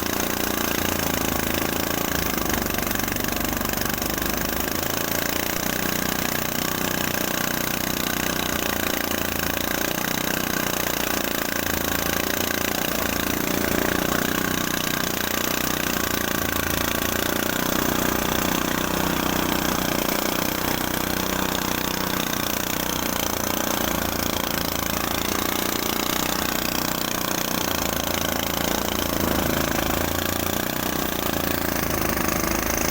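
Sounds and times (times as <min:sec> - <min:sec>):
threshing machine running: 0:00.0 - 0:32.9.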